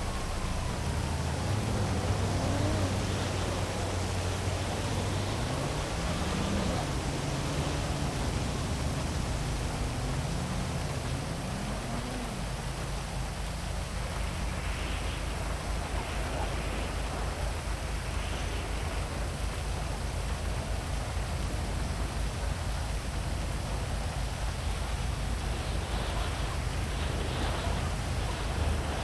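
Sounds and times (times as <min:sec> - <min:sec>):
heavy rain hissing: 0:00.0 - 0:29.0
vehicles passing: 0:00.0 - 0:29.0.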